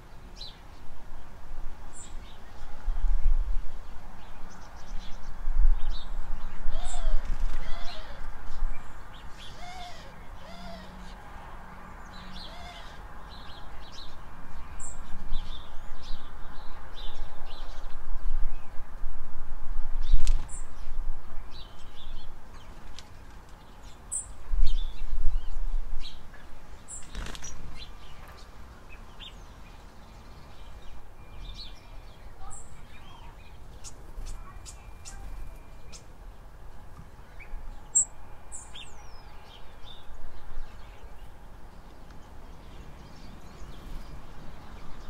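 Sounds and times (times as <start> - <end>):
songbirds chirping: 0.0 - 19.0, 19.8 - 45.0.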